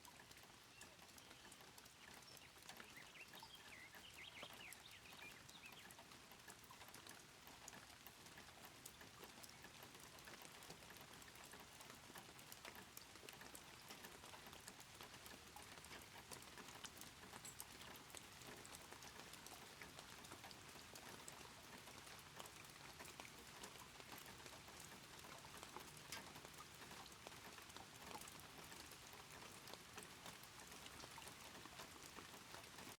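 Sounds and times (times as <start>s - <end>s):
small ticks: 0.0s - 32.9s.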